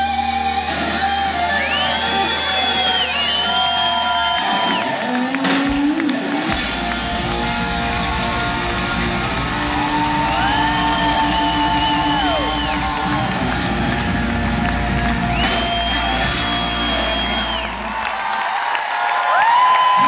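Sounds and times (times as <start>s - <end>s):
live rock band playing: 0.0s - 18.2s
crowd cheering and whooping: 0.0s - 20.0s.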